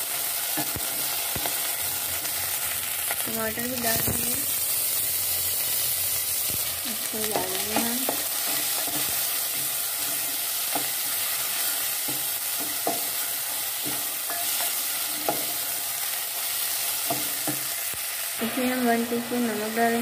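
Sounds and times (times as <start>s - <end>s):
vegetables sizzling in hot oil: 0.0s - 20.0s.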